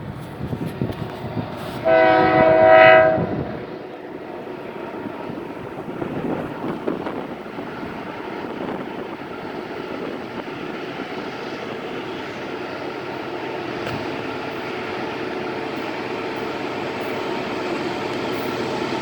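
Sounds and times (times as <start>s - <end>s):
train rumbling and rattling past: 0.0s - 19.0s.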